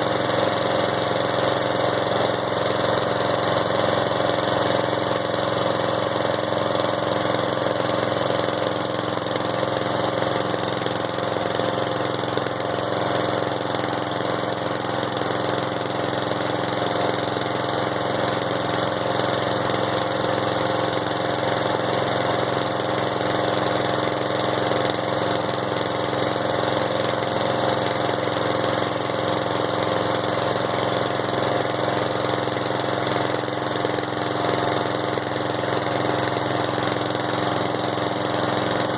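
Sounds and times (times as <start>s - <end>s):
riding lawnmower engine running: 0.0s - 38.9s.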